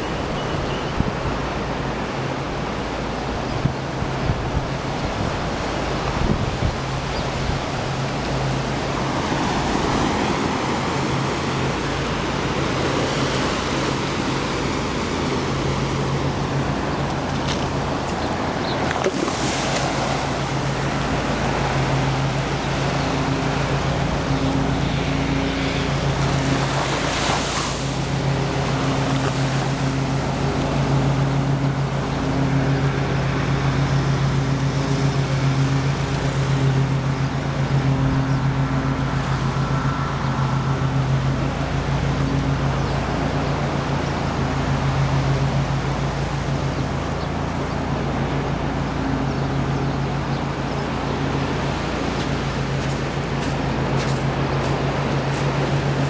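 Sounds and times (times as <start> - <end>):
low engine hum: 0.0 - 56.0
waves washing onto beach: 0.0 - 56.0.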